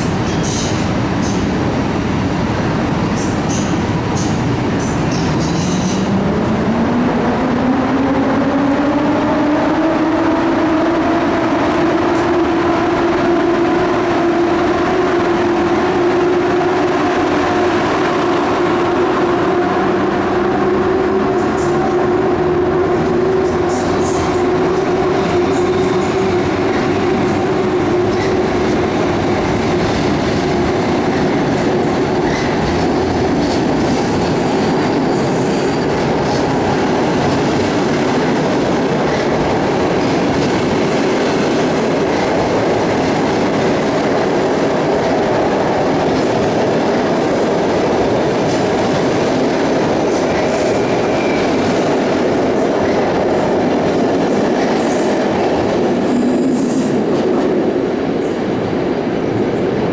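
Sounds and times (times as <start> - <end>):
rail noise rumble: 0.0 - 59.9.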